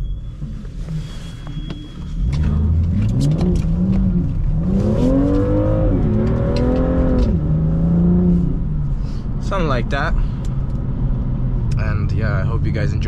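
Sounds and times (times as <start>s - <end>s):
car engine revving: 2.1s - 12.9s.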